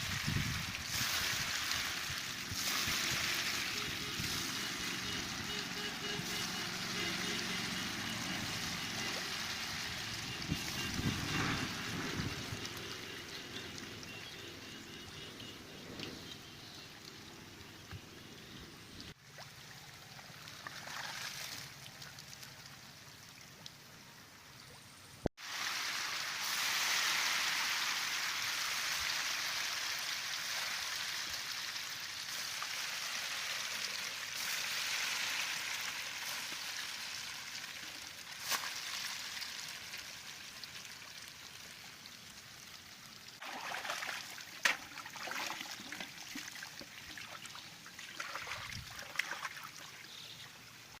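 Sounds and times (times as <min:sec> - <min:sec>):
water trickling and splashing: 0:00.0 - 0:51.0.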